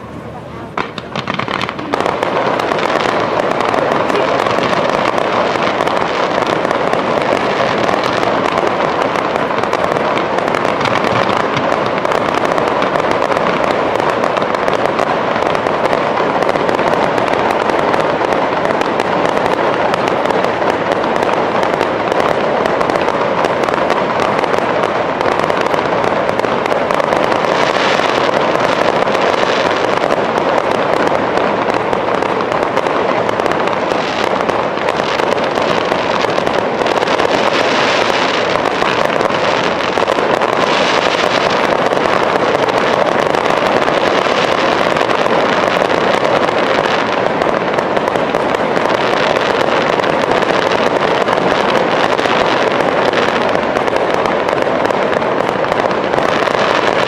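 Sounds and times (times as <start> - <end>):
fireworks crackling and rumbling: 0.0 - 57.0
sharp bright crackling: 0.0 - 57.0.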